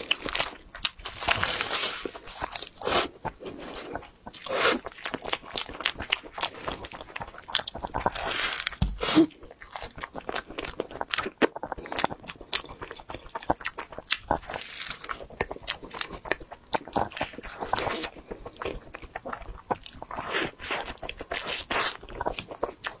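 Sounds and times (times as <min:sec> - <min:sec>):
bites and chewing: 0:00.0 - 0:23.0.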